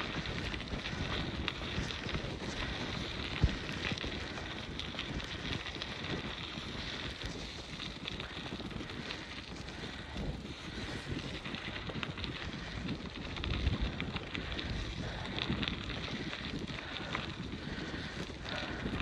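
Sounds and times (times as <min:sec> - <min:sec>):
bicycle rolling noise: 0:00.0 - 0:19.0
wind buffeting microphone: 0:00.0 - 0:19.0.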